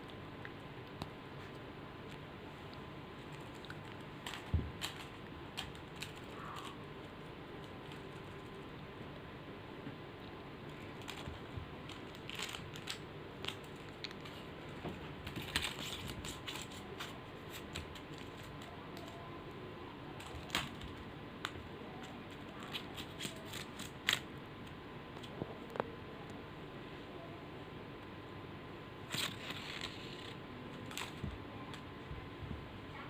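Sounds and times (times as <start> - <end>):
thin steady hum: 0.0 - 33.0.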